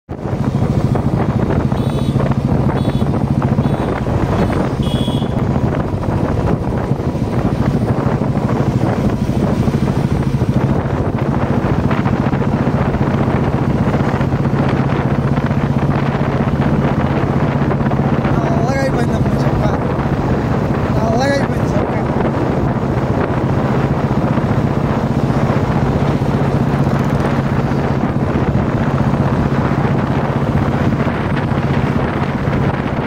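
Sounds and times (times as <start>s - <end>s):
motorcycle engine running: 0.1s - 33.0s
wind noise on microphone: 0.1s - 33.0s.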